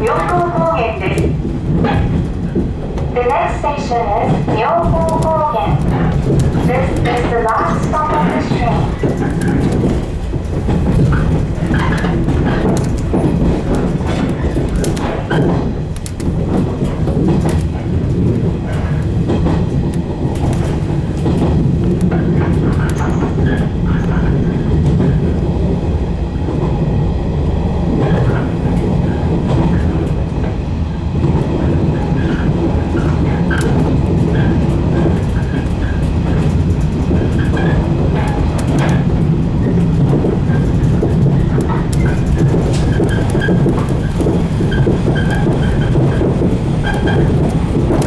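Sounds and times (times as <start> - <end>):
electric train rumbling on track: 0.0 - 48.0
train wheel clicks: 0.0 - 48.0.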